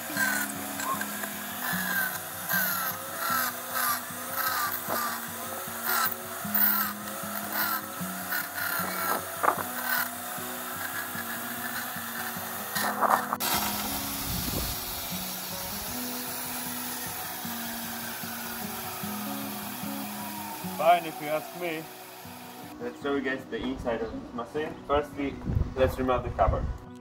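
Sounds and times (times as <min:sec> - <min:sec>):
bandsaw cutting wood: 0:00.0 - 0:22.8
background music: 0:00.0 - 0:27.0.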